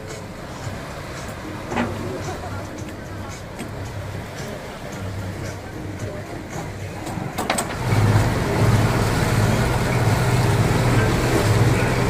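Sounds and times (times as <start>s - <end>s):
boat engine running: 0.0s - 12.0s
wind and water rushing: 0.0s - 12.0s.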